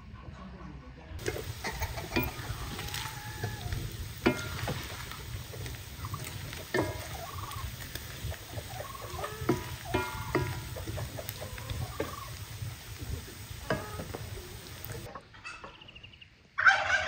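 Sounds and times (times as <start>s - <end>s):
meat sizzling in oil: 1.2s - 15.1s
wooden spoon scraping a pan: 1.2s - 15.1s.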